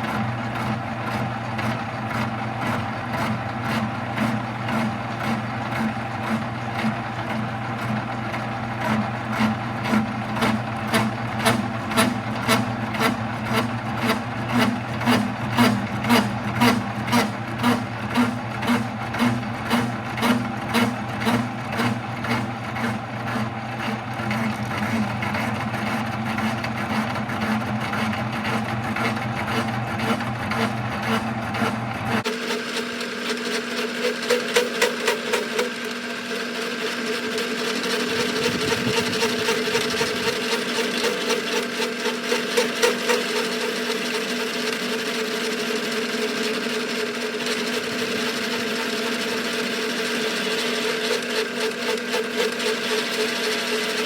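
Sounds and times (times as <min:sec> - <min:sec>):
metal lathe cutting with chatter: 0:00.0 - 0:54.0.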